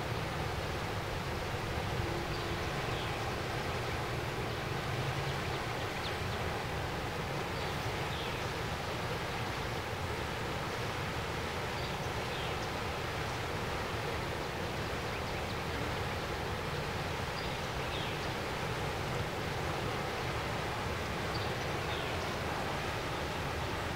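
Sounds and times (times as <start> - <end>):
river water rushing over rapids: 0.0 - 23.9.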